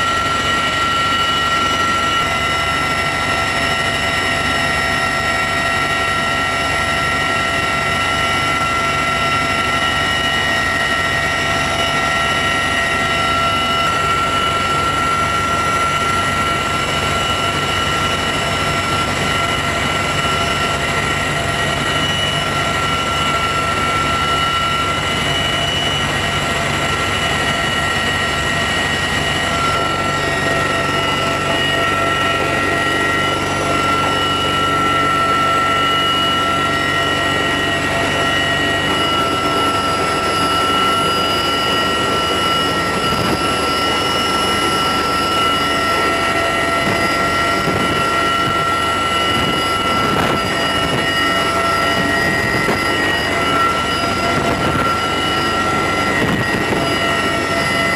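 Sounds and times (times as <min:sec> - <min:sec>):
helicopter cabin rush: 0:00.0 - 0:57.9
high-pitched whines: 0:00.0 - 0:57.9.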